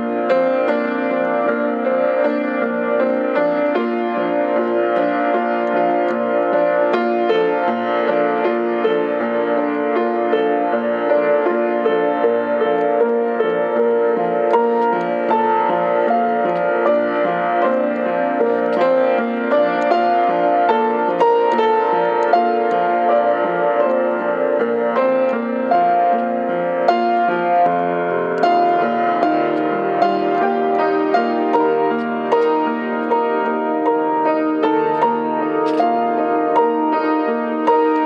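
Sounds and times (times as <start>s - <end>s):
upright piano playing: 0.0s - 38.0s.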